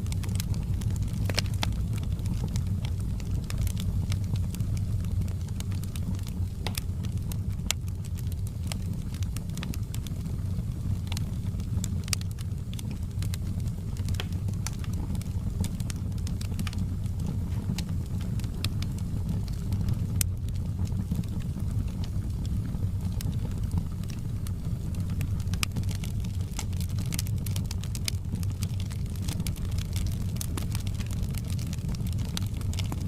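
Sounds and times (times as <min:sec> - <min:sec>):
fire pops and crackles: 0:00.0 - 0:33.0
low rumble of burning fire: 0:00.0 - 0:33.0.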